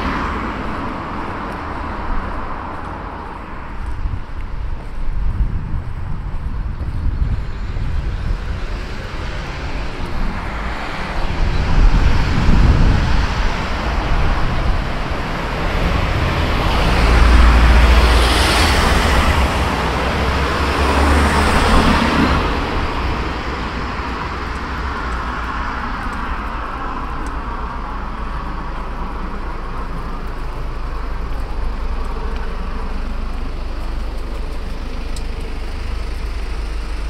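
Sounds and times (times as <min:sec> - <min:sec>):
steady traffic noise: 0:00.0 - 0:37.0
vehicles passing close by: 0:00.0 - 0:37.0.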